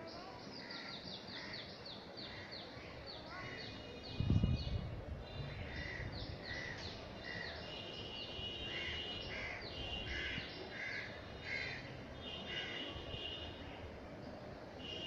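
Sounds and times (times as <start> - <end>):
low steady background noise: 0.0 - 15.0
birds calling: 0.1 - 13.4.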